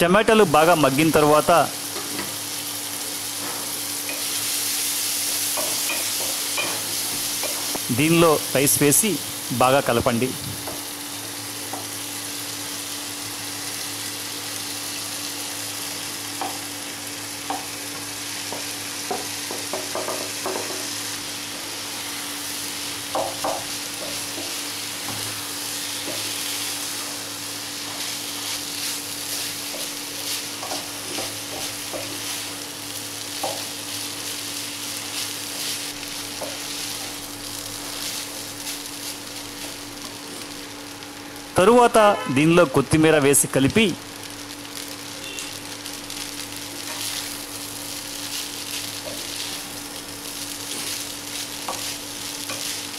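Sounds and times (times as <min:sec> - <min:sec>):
rice sizzling in a pan: 0:00.4 - 0:42.0, 0:43.4 - 0:52.9.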